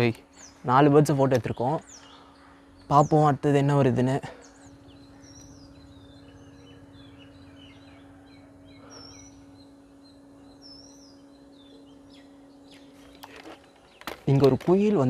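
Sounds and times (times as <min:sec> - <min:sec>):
birds chirping and whistling: 0:00.0 - 0:15.0
low hum: 0:00.0 - 0:15.0.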